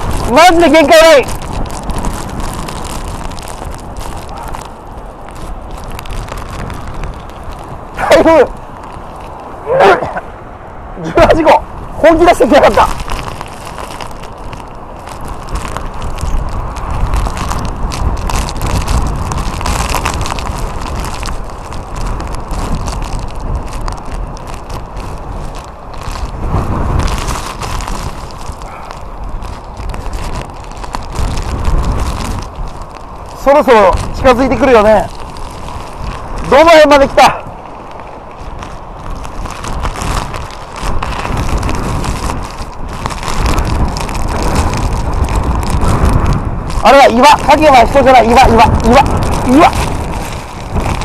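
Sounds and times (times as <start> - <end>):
strong wind buffeting microphone: 0.0 - 51.0.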